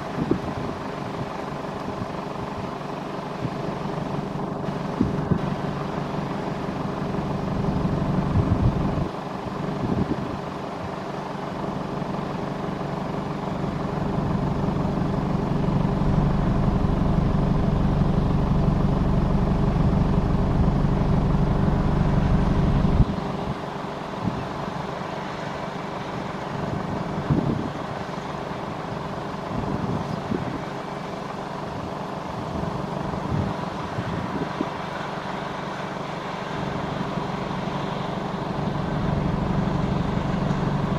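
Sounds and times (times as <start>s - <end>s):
tractor engine drone: 0.0s - 40.9s.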